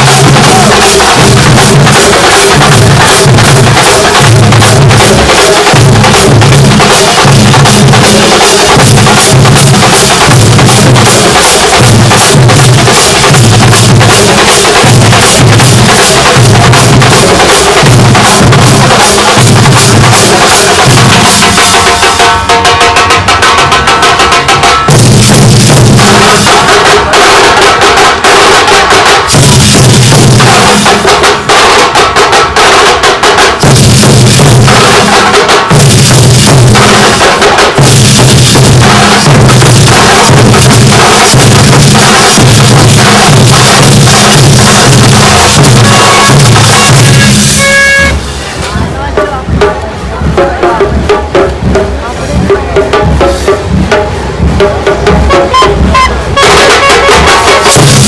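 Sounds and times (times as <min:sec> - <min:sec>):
deep bass drum beats: 0:00.0 - 0:32.7, 0:33.3 - 0:58.0
rapid sharp drum strokes: 0:00.0 - 0:58.0.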